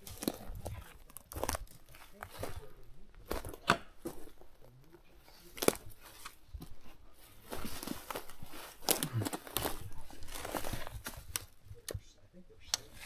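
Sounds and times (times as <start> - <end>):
dry brush and leaves rustling: 0.0 - 13.0.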